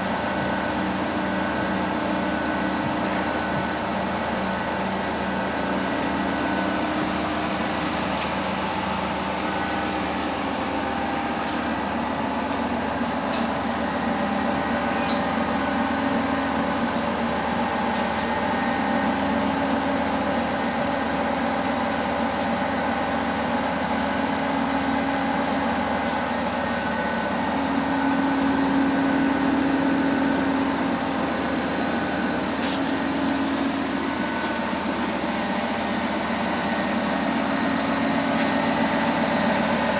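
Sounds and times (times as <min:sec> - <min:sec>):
high machine whine: 0:00.0 - 0:39.9.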